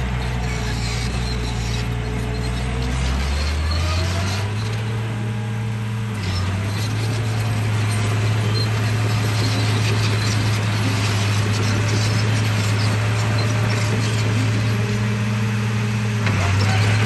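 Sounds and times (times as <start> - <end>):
toy bulldozer motor drone: 0.0 - 5.2, 6.1 - 15.2, 16.2 - 17.0.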